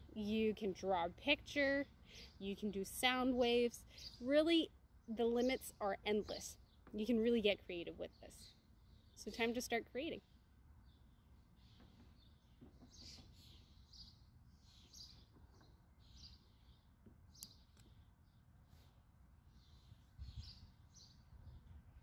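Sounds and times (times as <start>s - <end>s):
birds chirping: 0.0s - 18.6s.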